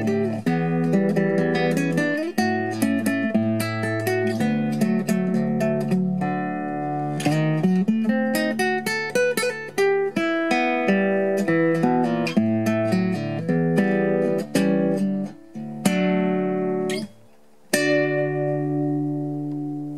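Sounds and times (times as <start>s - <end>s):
classical guitar fingerstyle: 0.0s - 19.9s.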